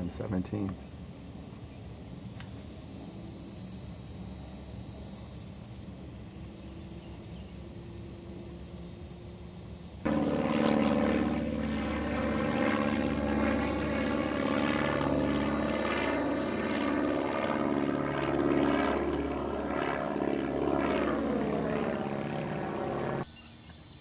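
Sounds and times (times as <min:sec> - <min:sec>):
propeller aircraft engine droning: 0:00.0 - 0:24.0.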